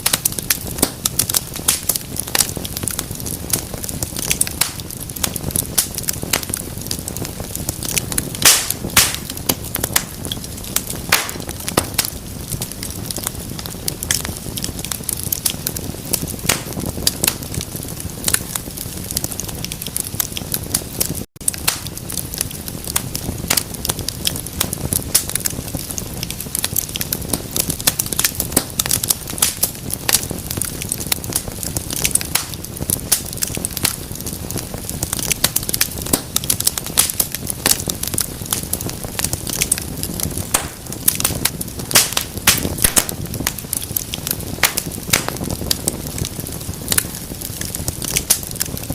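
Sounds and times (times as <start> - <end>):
fireplace fire crackling: 0.0 - 48.9
low rush of flame: 0.0 - 48.9.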